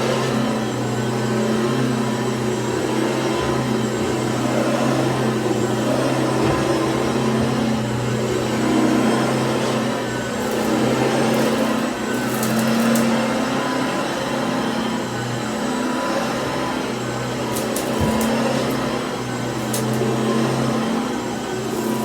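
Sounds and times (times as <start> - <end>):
stick vacuum running: 0.0 - 22.0.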